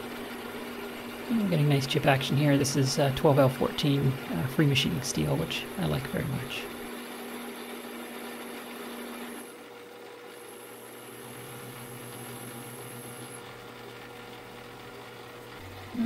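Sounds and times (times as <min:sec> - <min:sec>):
metal lathe humming: 0:00.0 - 0:16.0.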